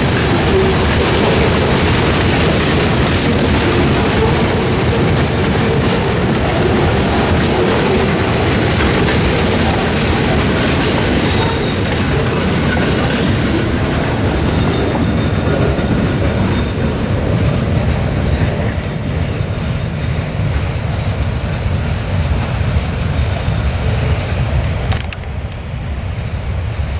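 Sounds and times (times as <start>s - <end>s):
boxcars clattering: 0.0s - 24.2s
freight train rumble: 0.0s - 26.9s.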